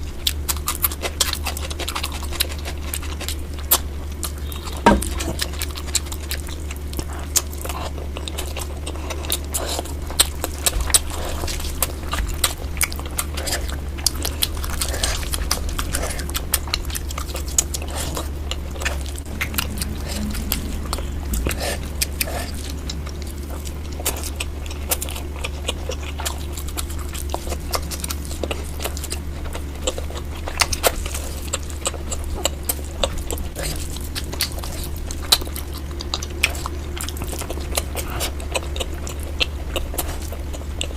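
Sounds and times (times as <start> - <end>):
close chewing and biting: 0.0 - 40.9
steady low hum: 0.0 - 40.9.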